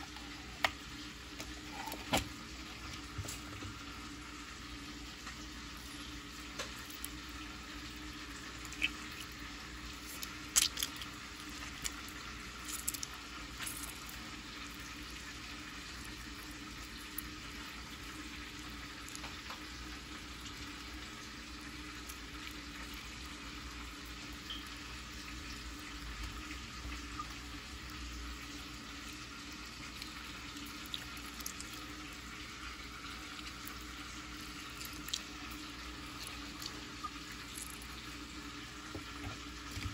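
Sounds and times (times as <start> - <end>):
low hiss with faint hum: 0.0 - 39.9.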